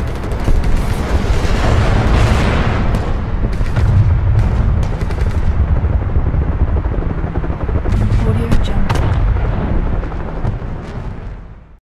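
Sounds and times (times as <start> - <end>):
rumble of distant explosions: 0.0 - 11.8.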